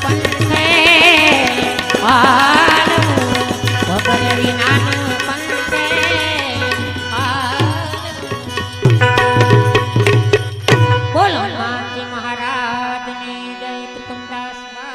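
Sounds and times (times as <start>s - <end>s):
banjo melody: 0.0s - 12.3s
tabla rhythm: 0.0s - 14.9s.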